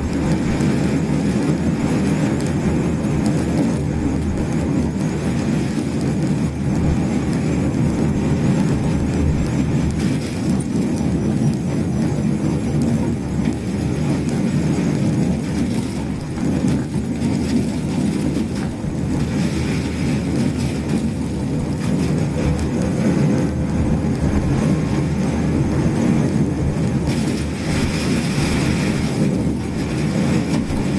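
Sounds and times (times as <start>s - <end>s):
car road and running noise: 0.0s - 30.9s.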